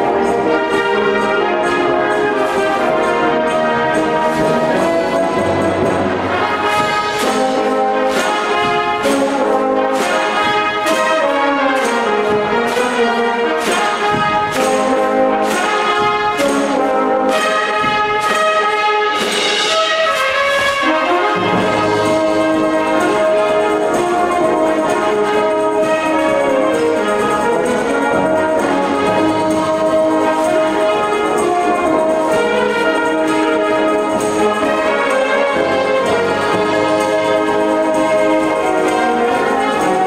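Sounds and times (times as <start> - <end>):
brass band music with beat: 0.0 - 40.0.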